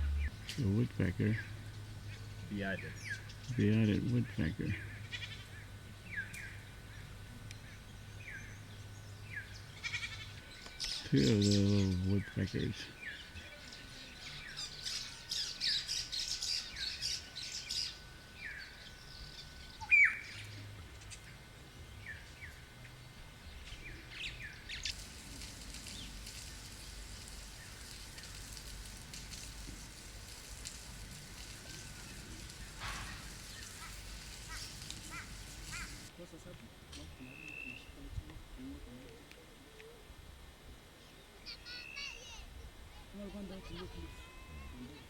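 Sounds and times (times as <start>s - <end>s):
wild birds chirping: 0.0s - 36.1s, 41.0s - 42.7s
faint steady hiss: 0.0s - 45.0s.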